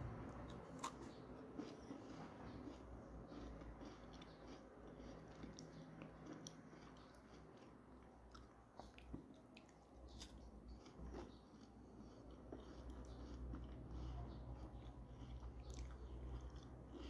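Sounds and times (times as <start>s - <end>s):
low steady hum: 0.0s - 17.0s
chewing biscuit: 0.5s - 17.0s.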